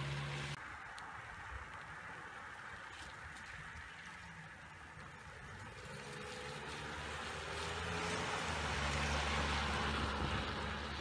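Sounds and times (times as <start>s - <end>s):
low engine hum: 0.0s - 11.0s
tyres hissing on wet road: 0.0s - 11.0s.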